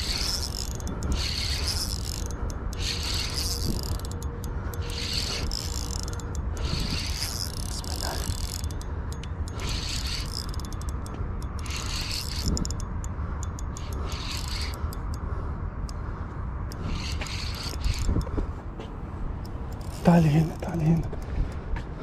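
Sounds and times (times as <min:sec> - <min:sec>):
fishing reel whirring and clicking: 0:00.0 - 0:16.0, 0:16.7 - 0:18.4, 0:19.4 - 0:21.0
steady low rumble: 0:00.0 - 0:22.0.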